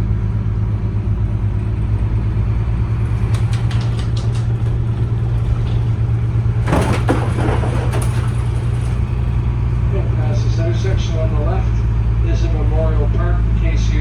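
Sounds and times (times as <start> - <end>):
bus engine droning: 0.0 - 14.0.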